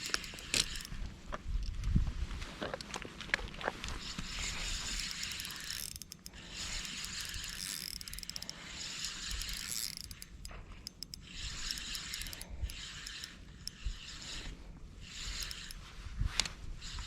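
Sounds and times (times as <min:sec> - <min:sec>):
fishing reel whirring: 0:00.0 - 0:01.0, 0:04.0 - 0:17.0.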